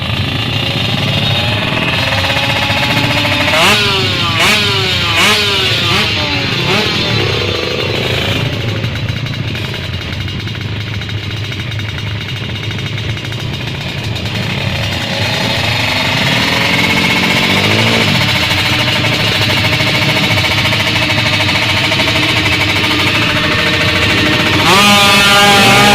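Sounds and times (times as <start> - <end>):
motorcycle engines revving: 0.0 - 25.9.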